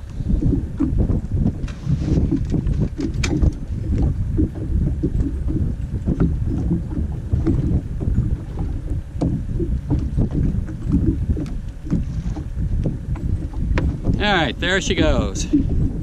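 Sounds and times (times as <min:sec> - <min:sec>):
water lapping at boat hull: 0:00.0 - 0:16.0
wind buffeting microphone: 0:00.0 - 0:16.0.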